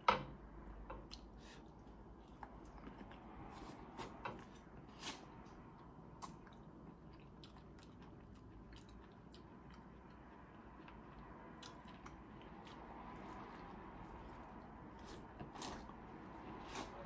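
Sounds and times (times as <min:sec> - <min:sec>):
soft chewing: 0:00.7 - 0:17.0.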